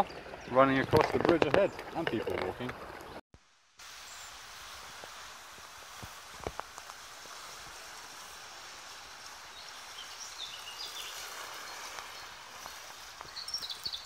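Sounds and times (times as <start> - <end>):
river water running: 0.0 - 14.0.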